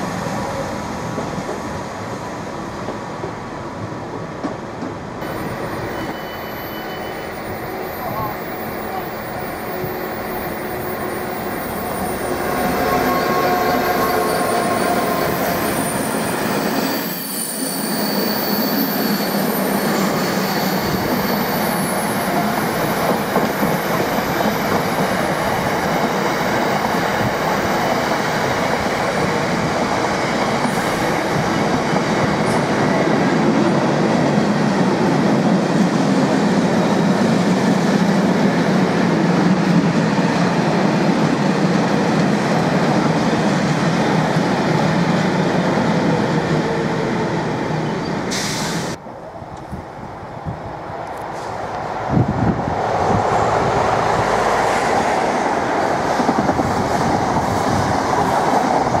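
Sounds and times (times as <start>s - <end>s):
diesel train at platform: 0.0s - 59.0s
freight train passing: 0.0s - 59.0s.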